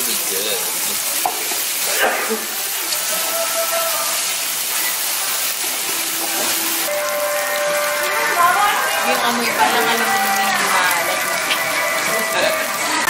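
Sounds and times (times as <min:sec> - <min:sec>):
chicken sizzling in a hot pan: 0:00.0 - 0:13.0.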